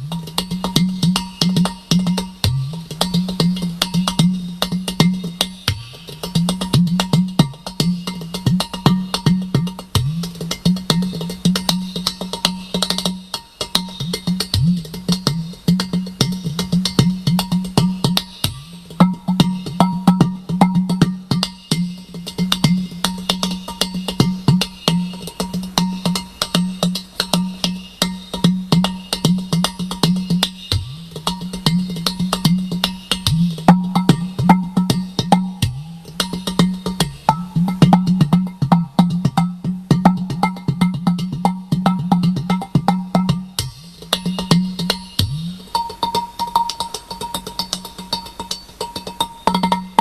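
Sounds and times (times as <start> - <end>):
clay pot drum played by hand: 0.0 - 50.0.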